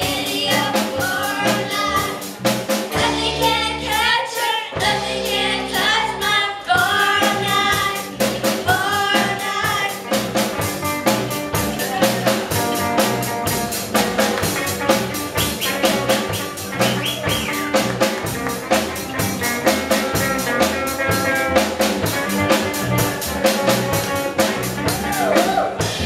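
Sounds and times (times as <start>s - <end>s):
drum kit fast beat: 0.0s - 4.1s, 6.7s - 26.0s
electric guitars: 0.0s - 26.0s
live rock band: 0.0s - 26.0s.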